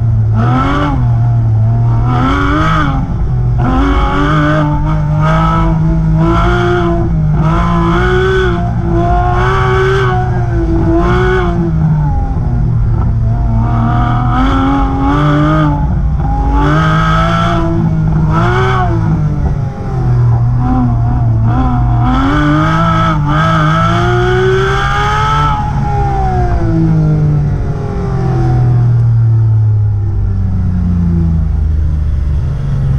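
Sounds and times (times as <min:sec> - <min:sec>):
sports car engine revving: 0:00.0 - 0:32.9.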